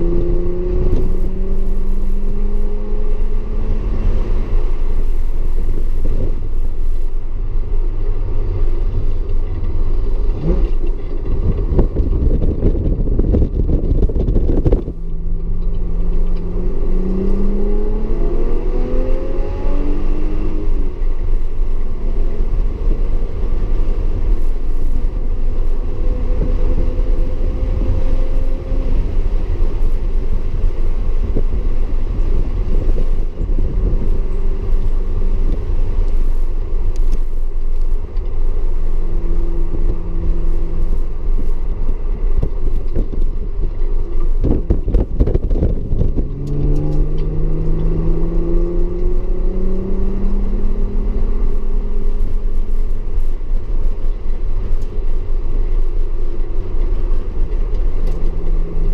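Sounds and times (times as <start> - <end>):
car engine revving: 0.0 - 53.2.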